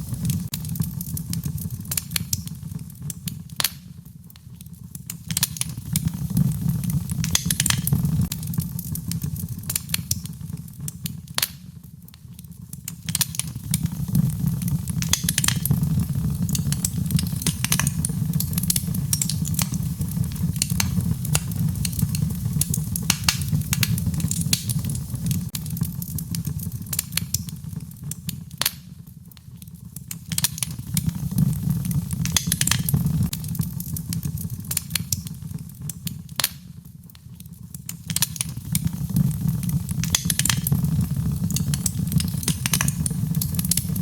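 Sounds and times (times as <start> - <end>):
fireplace fire crackling: 0.0 - 44.0
sharp pops of fire: 0.0 - 44.0.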